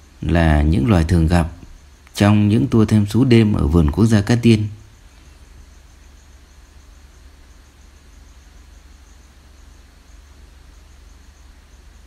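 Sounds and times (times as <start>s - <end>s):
insect chirping: 0.0s - 12.0s
low steady rumble: 0.0s - 12.0s.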